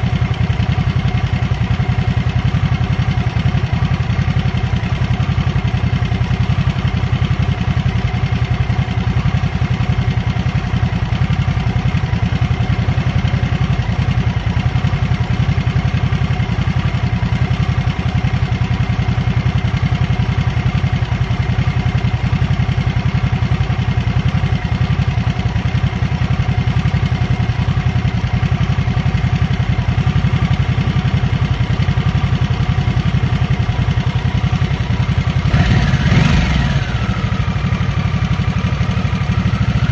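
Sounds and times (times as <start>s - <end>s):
v-twin engine running: 0.0s - 39.9s.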